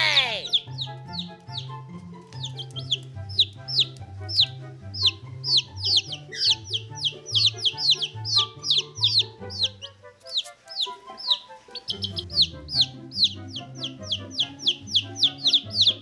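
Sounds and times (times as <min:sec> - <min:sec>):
baby chicks peeping: 0:00.0 - 0:16.0
background music with bass line: 0:00.0 - 0:16.0.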